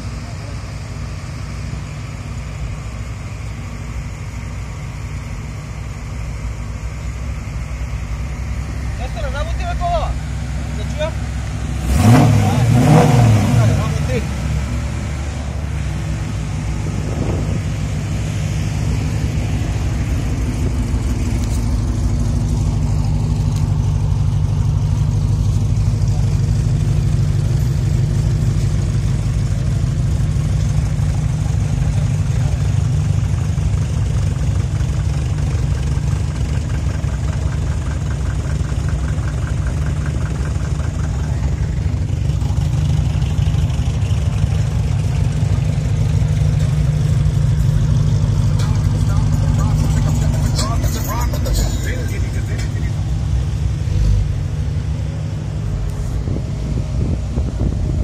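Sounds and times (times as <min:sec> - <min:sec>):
car engine idling: 0:00.0 - 0:58.0
other cars idling: 0:00.0 - 0:58.0.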